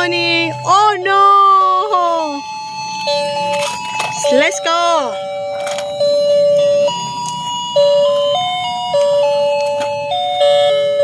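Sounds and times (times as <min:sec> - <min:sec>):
electronic beeping toy melody: 0:00.0 - 0:11.0.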